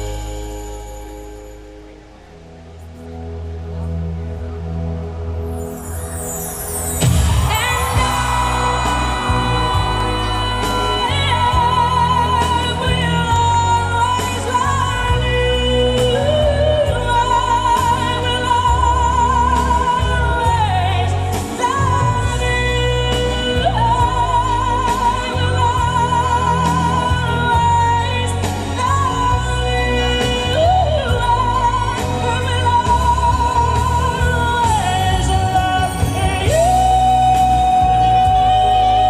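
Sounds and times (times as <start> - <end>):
steady bass: 0.0 - 39.0.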